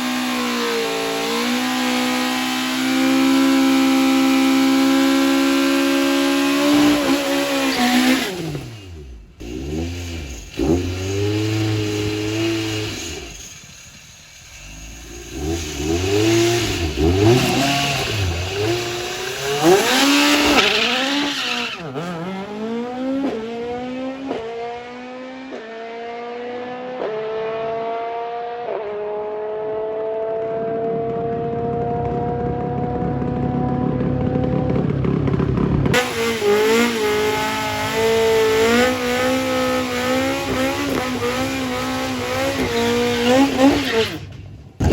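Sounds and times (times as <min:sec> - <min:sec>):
car pulling away through gears: 0:00.0 - 0:44.9
race car engine revving: 0:00.0 - 0:44.9.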